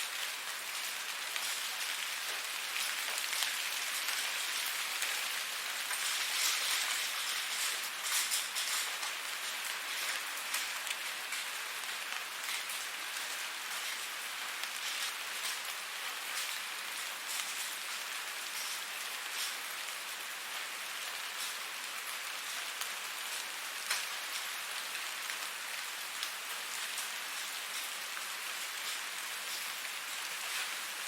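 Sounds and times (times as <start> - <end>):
rain hissing on a surface: 0.0 - 31.0.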